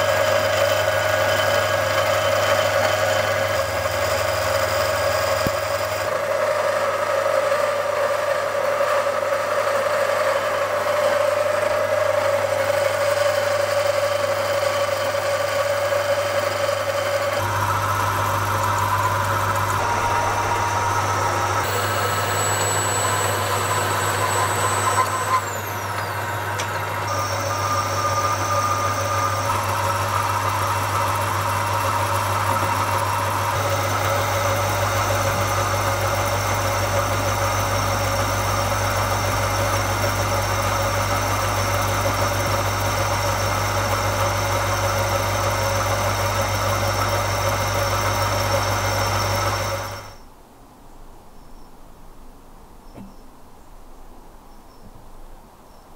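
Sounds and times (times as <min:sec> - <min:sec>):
metal lathe humming and whining: 0:00.0 - 0:50.2.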